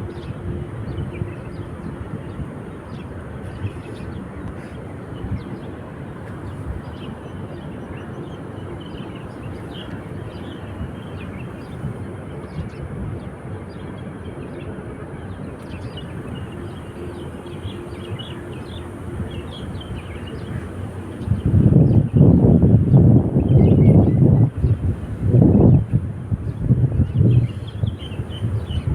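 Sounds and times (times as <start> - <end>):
sea and wind rumble: 0.0 - 28.9.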